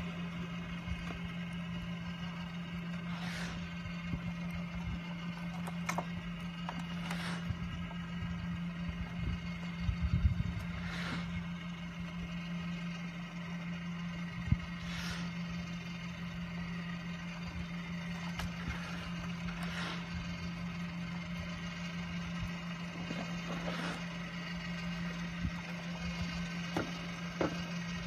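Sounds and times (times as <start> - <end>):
welding machine humming: 0.0 - 28.0.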